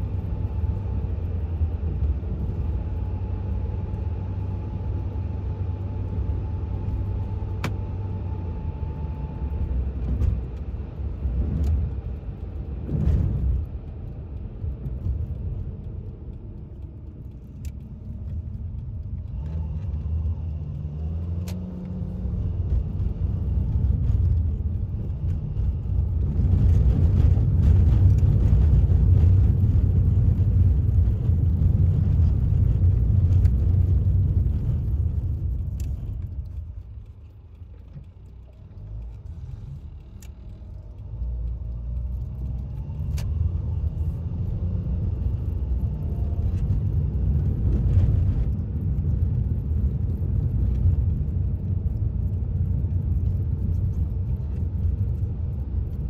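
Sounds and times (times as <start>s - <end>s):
tyre and engine rumble: 0.0s - 56.0s.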